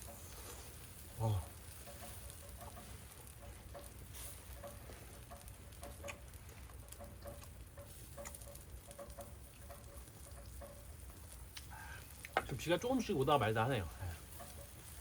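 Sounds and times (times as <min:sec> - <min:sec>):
raindrops dripping and pattering: 0:00.0 - 0:15.0.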